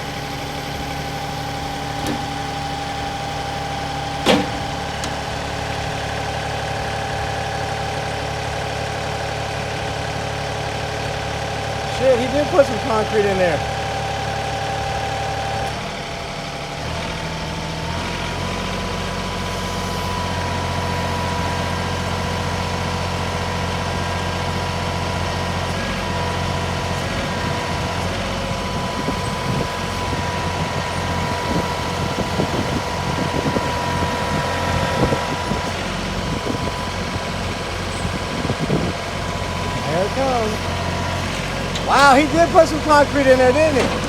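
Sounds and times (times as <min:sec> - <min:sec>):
tractor engine under load: 0:00.0 - 0:44.0.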